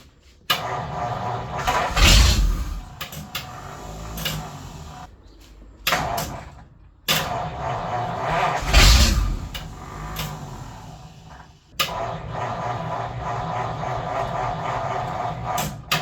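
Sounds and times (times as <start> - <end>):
engine cranking on starter: 0.2 - 16.0.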